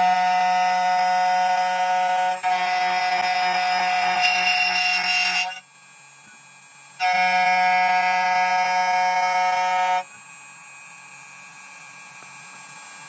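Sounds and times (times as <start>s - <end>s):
key cutting machine motor whine: 0.0s - 13.0s.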